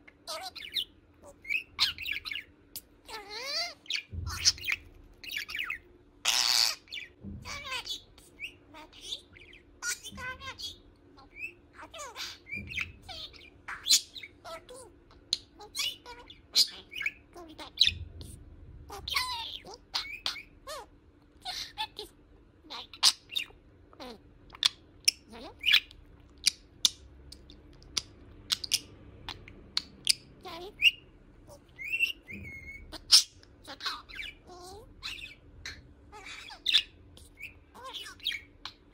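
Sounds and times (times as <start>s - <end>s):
budgerigar chattering: 0.2s - 38.9s.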